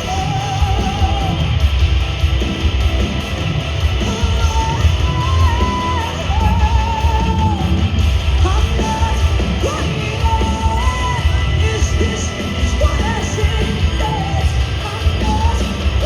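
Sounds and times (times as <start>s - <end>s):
live hard rock band playing: 0.0s - 16.0s.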